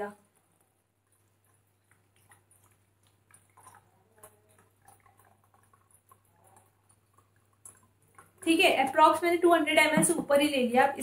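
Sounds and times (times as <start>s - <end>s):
faint water drips and ticks: 0.1s - 11.0s.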